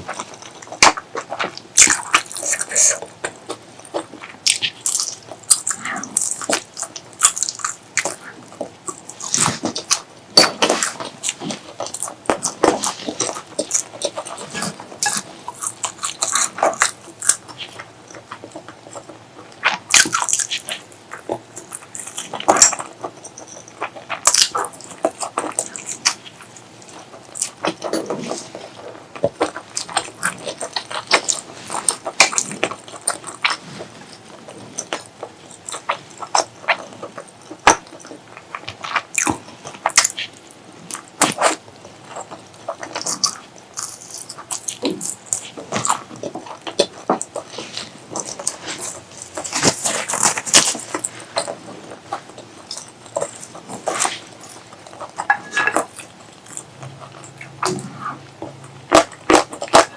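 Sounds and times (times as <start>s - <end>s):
wet chewing and mouth smacks: 0.1s - 59.9s.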